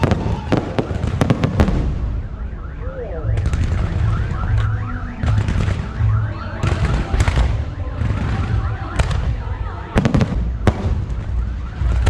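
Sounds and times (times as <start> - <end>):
fireworks crackling: 0.0 - 2.3, 3.2 - 12.0
fireworks launches and bursts: 0.0 - 2.4, 3.3 - 12.0.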